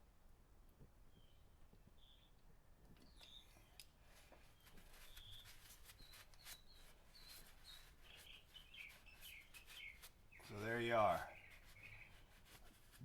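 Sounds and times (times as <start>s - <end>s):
faint high bird chirps: 1.1s - 2.4s, 3.0s - 12.3s.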